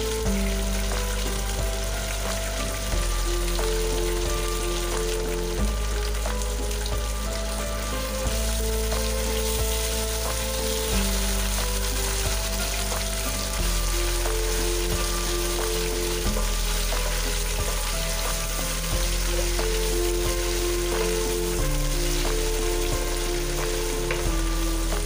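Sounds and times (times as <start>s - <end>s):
background music: 0.0s - 25.0s
onions sizzling in hot oil: 0.0s - 25.0s.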